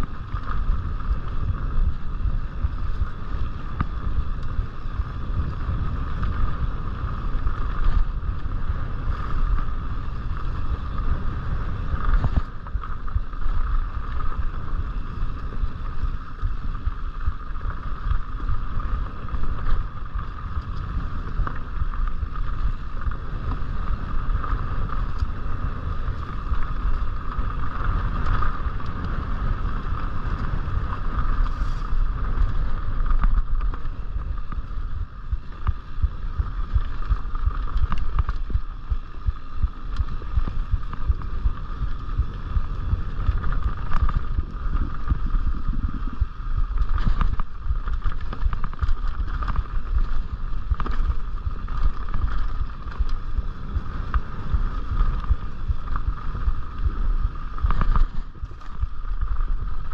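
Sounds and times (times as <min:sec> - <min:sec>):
bike rattling over trail: 0:00.0 - 0:59.9
wind buffeting microphone: 0:00.0 - 0:59.9.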